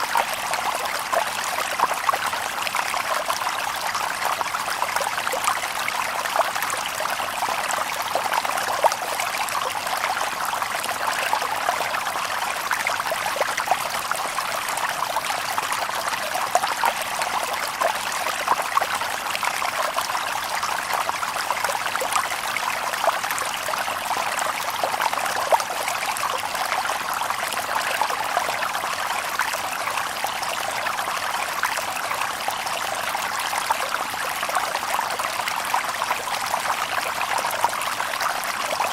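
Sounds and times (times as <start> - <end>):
river water babbling over stones: 0.0 - 38.9.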